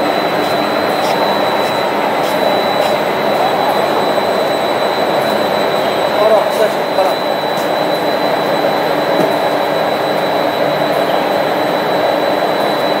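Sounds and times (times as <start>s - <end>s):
thin high whine: 0.0s - 13.0s.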